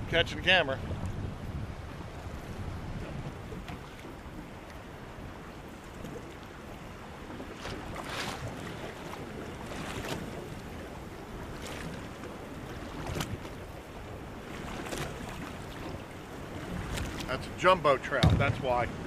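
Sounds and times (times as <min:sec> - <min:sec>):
water lapping around boat: 0:00.0 - 0:19.0
wind buffeting microphone: 0:00.0 - 0:19.0.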